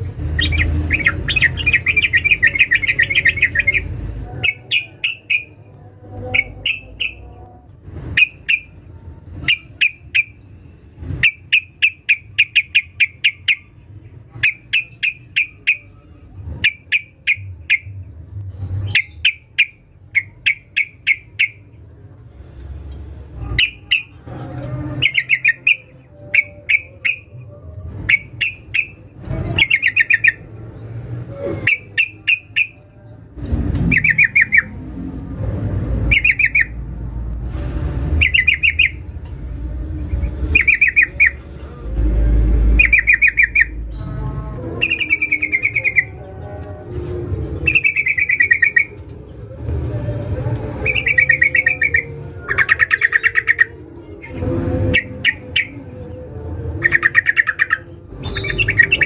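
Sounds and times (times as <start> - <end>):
low rumbling background noise: 0.0 - 59.0.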